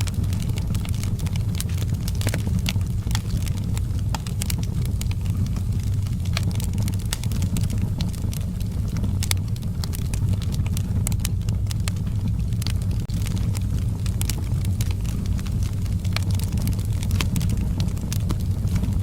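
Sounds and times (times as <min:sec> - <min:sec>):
fire crackling and popping: 0:00.0 - 0:19.0
fire low rumble: 0:00.0 - 0:19.0.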